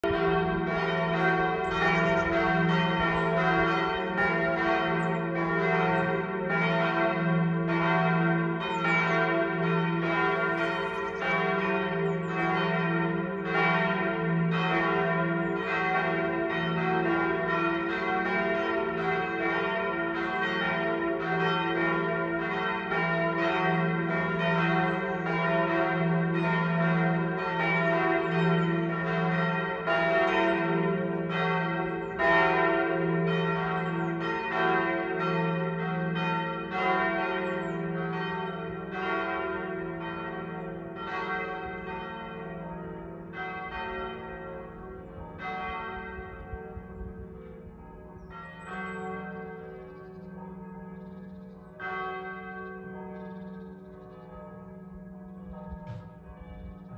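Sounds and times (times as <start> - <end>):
church bells pealing: 0.0 - 56.9.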